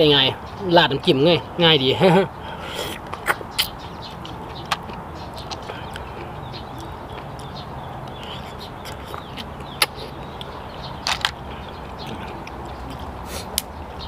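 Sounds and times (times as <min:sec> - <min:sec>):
quiet eating sounds: 0:02.3 - 0:13.8.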